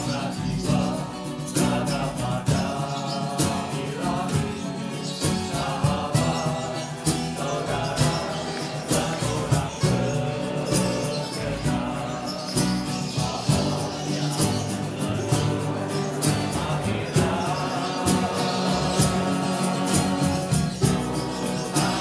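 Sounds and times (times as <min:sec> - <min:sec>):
band playing a song: 0:00.0 - 0:22.0
percussion beat: 0:00.0 - 0:22.0
person singing: 0:00.0 - 0:22.0.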